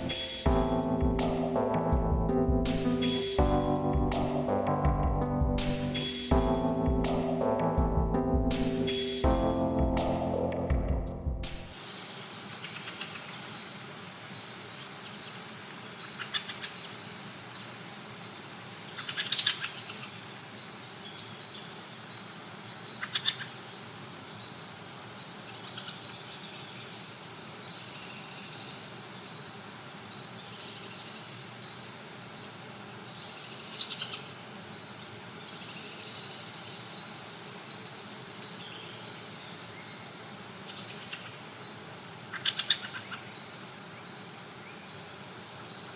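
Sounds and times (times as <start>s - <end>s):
birds chirping and trilling: 0.0s - 45.9s.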